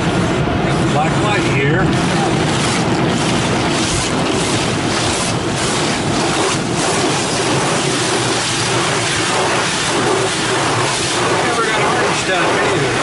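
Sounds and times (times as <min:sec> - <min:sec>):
car wash water spraying: 0:00.0 - 0:13.0.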